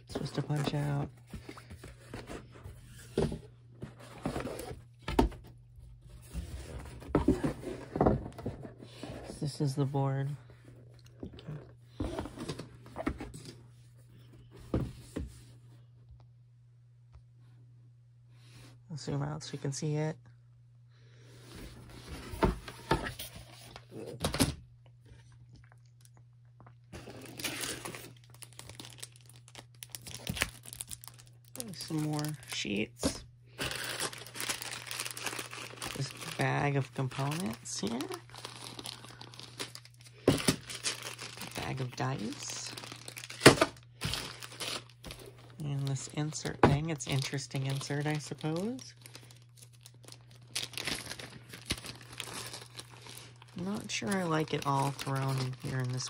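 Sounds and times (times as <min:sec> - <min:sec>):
cardboard rustling and crinkling: 0:00.0 - 0:15.6, 0:21.5 - 0:24.3, 0:27.0 - 0:56.0.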